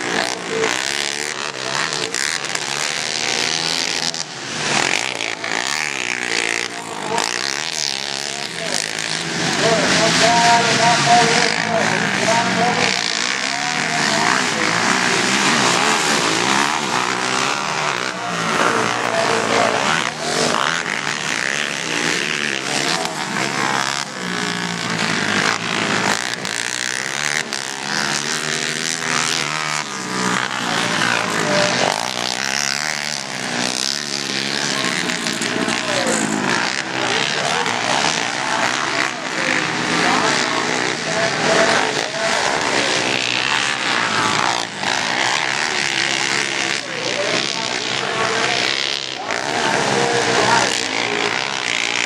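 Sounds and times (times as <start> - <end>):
quad engines revving: 0.0 - 52.0.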